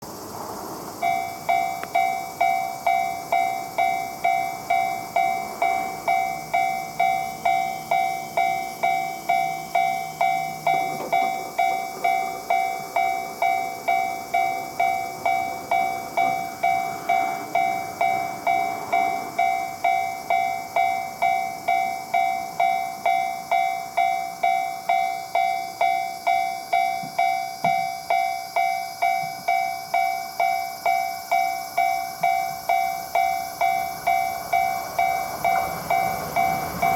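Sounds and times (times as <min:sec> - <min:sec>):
railroad crossing bell: 0:00.0 - 0:36.9.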